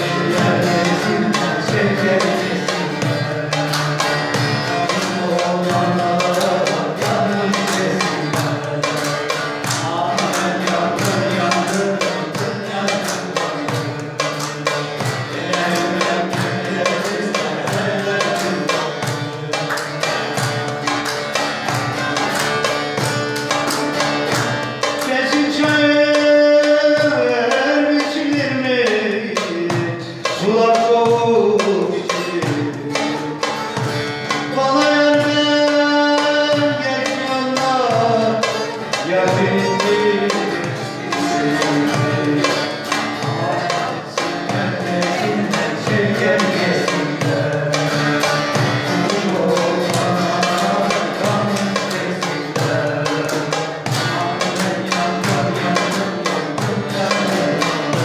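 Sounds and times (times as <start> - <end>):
long-necked string instrument strumming: 0.0 - 58.0
man singing: 0.0 - 58.0.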